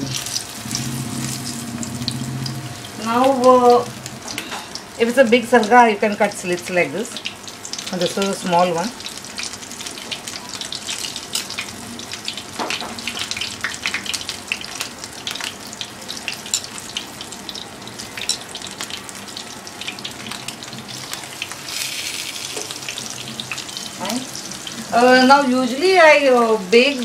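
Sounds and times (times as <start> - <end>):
oil sizzling in a frying pan: 0.0 - 27.0.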